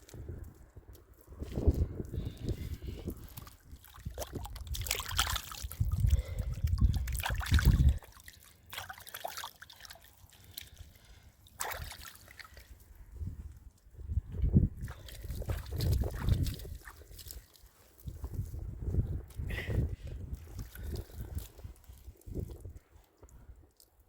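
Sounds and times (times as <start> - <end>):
water sloshing and trickling: 0.0 - 23.9.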